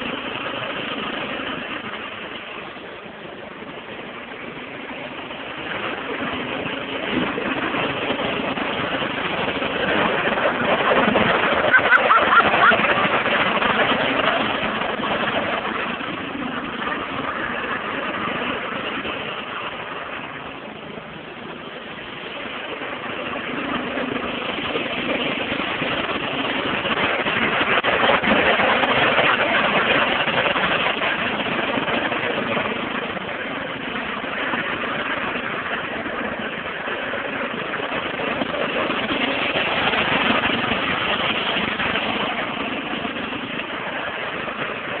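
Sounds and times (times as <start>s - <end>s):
riding lawn mower engine: 0.0s - 45.0s.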